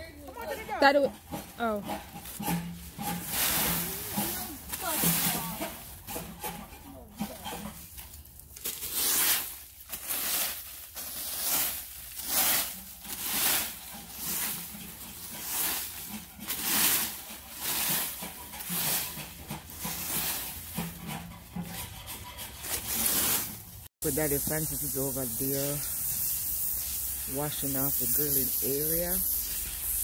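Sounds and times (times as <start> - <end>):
rake scraping dry leaves: 0.3 - 30.0.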